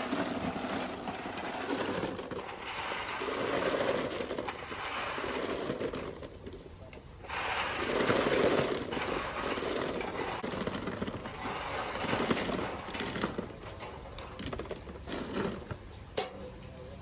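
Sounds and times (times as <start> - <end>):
walnuts clattering into crate: 0.0 - 15.8.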